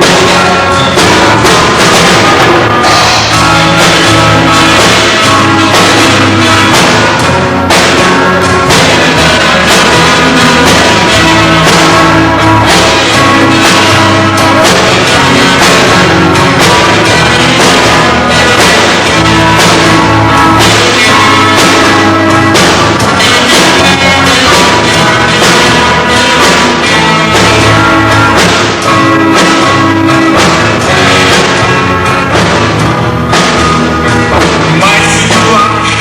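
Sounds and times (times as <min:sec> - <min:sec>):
bass guitar: 0:00.0 - 0:36.0
drum kit steady beat: 0:00.0 - 0:36.0
electric guitar: 0:00.0 - 0:36.0.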